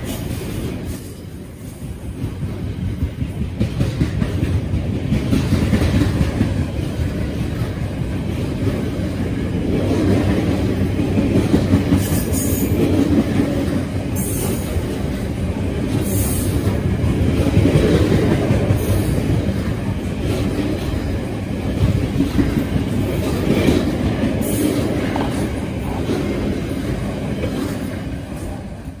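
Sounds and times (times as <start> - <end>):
train wheels rumbling and clattering: 0.0 - 29.0.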